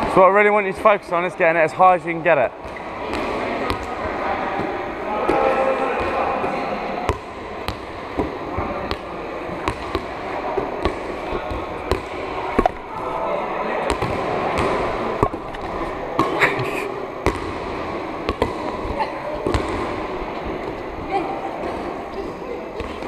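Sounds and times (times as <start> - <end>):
murmur of voices: 0.0 - 23.0.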